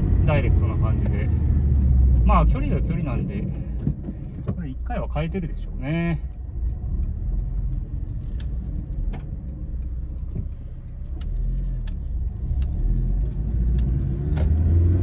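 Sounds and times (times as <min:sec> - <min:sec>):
car engine drone from cabin: 0:00.0 - 0:15.0
light clicks and ticks: 0:00.3 - 0:14.7.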